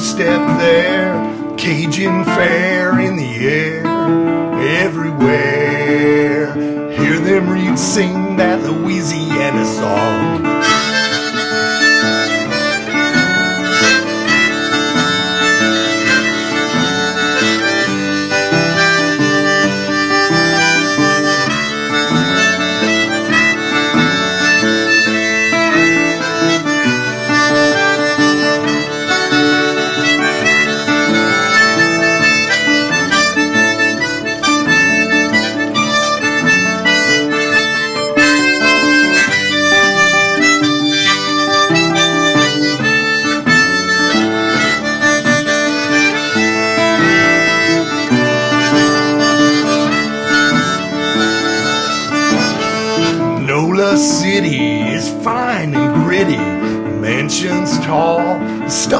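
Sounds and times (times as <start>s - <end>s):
acoustic guitar backing: 0.0s - 58.9s
harmonica playing: 0.0s - 58.9s.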